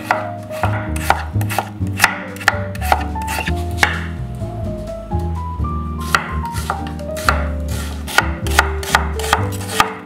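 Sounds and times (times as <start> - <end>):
knife chopping on wooden board: 0.0 - 4.1, 6.0 - 10.0
light background music: 0.0 - 10.0.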